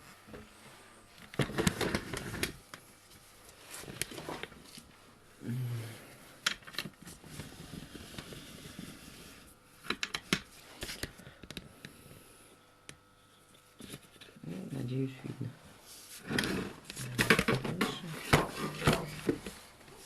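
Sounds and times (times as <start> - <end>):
faint steady background noise: 0.0 - 20.0.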